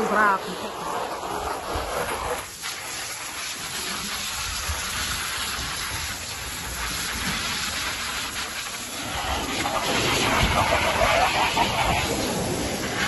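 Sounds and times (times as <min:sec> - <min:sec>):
hose spraying water onto pool floor: 0:00.0 - 0:13.0.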